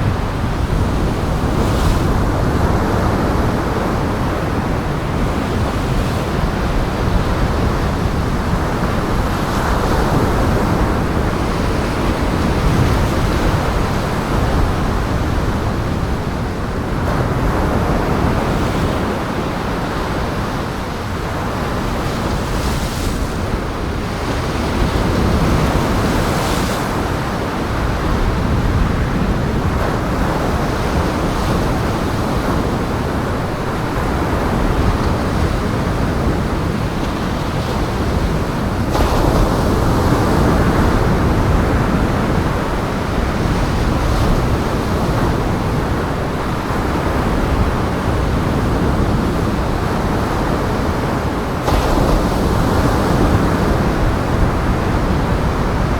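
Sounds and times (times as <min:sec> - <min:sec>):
strong wind: 0:00.0 - 0:55.9
waves breaking: 0:00.0 - 0:55.9.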